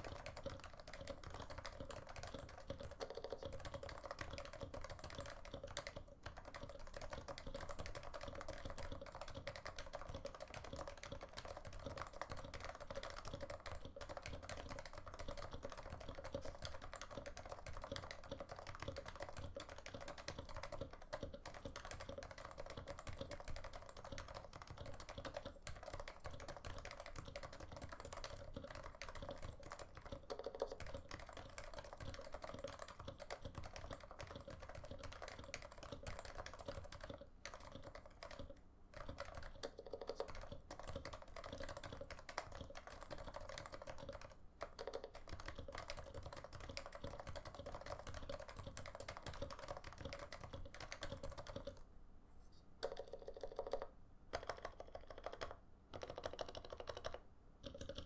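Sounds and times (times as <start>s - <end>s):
keyboard typing: 0.0s - 51.9s, 52.8s - 58.0s.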